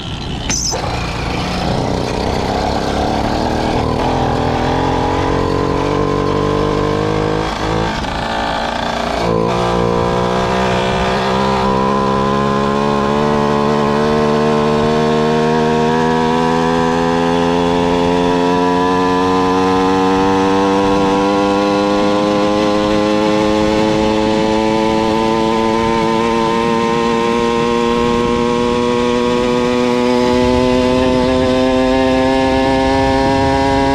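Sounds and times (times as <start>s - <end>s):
two-stroke engine at full throttle: 0.0s - 33.9s.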